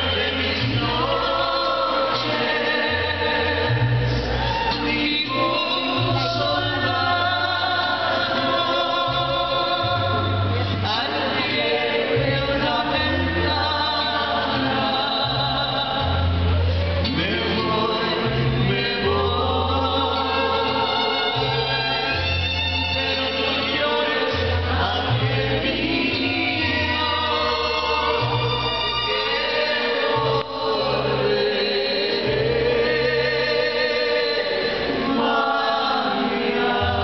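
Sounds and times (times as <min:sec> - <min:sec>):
mariachi band playing and singing: 0:00.0 - 0:37.0.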